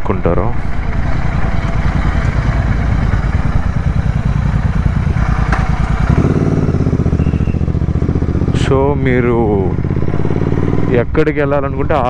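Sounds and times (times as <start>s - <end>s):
motorcycle engine deep pulsing exhaust: 0.6s - 12.0s.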